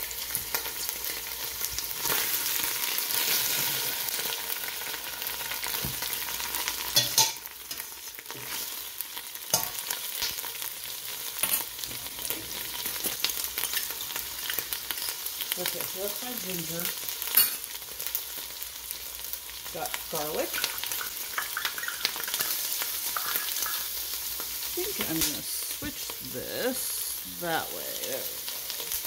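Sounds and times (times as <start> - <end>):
onion sizzling in oil: 0.0 - 29.0.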